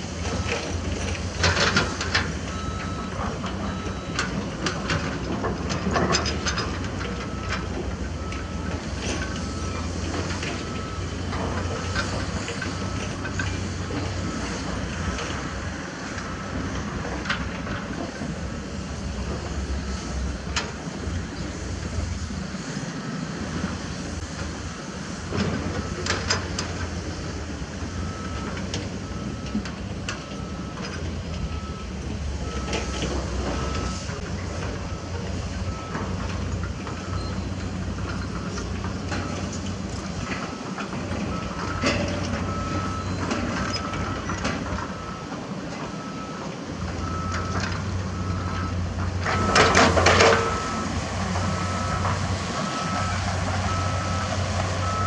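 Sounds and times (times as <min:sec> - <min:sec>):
diesel machinery droning: 0:00.0 - 0:55.0
reversing alarm beeping: 0:00.2 - 0:18.4, 0:24.7 - 0:55.0.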